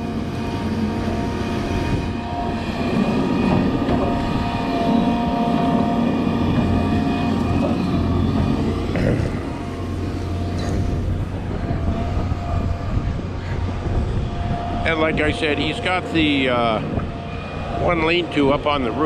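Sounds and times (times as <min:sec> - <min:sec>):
excavator diesel engine running: 0:00.0 - 0:19.0
thin steady whine: 0:00.0 - 0:19.0.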